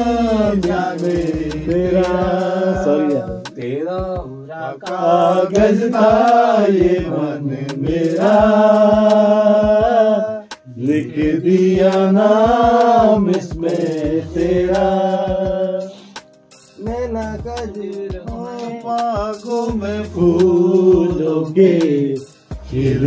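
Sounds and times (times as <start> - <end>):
men singing: 0.0 - 16.2, 16.8 - 23.0.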